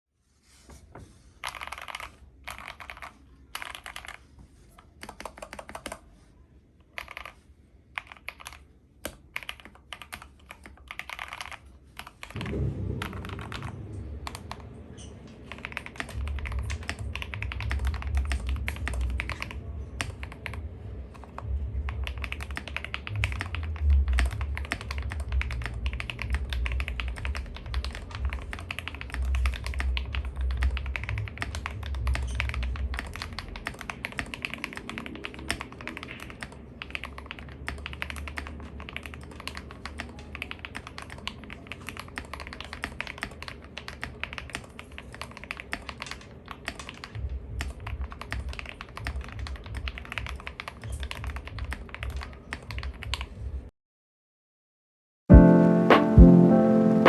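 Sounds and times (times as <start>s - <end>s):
fast mechanical keyboard typing: 1.4s - 4.3s, 5.0s - 6.1s, 6.9s - 53.4s.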